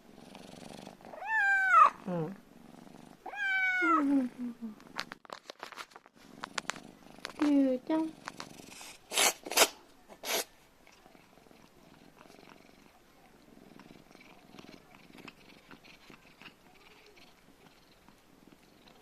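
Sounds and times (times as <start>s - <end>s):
cat purring faintly: 0.0s - 5.3s, 6.0s - 9.0s, 10.0s - 19.0s
soft small sounds: 0.0s - 19.0s.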